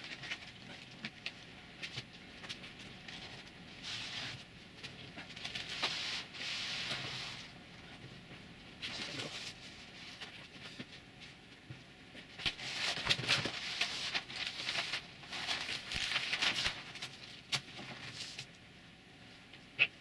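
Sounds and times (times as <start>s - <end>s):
vinyl and paper rustling: 0.0s - 8.1s, 8.8s - 18.6s.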